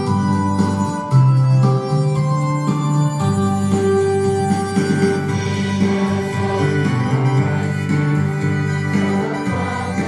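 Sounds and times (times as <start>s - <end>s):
electronic keyboard organ chords: 0.0s - 10.0s.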